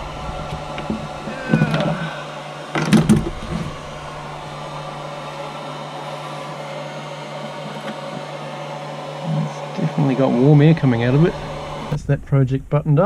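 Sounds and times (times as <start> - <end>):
hairdryer humming and blowing: 0.0 - 12.0.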